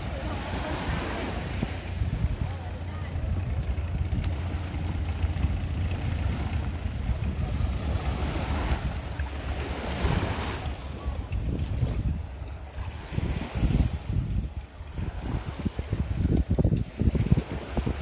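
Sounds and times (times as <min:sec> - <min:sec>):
small waves washing onto sand: 0:00.0 - 0:18.0
wind buffeting microphone: 0:00.0 - 0:18.0.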